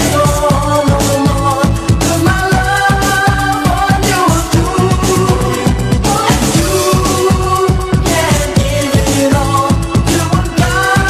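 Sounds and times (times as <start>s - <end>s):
electronic dance track: 0.0s - 11.0s.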